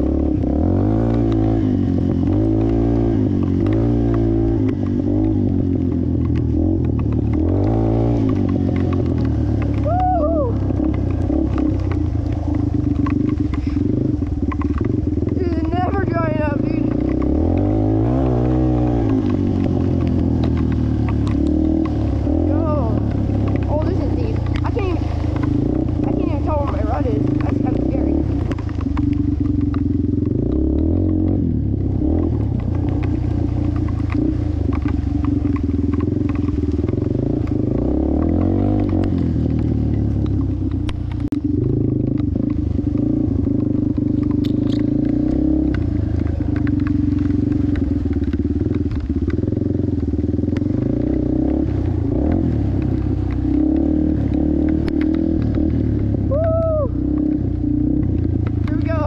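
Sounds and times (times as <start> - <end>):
motorcycle engine under throttle: 0.0 - 59.0.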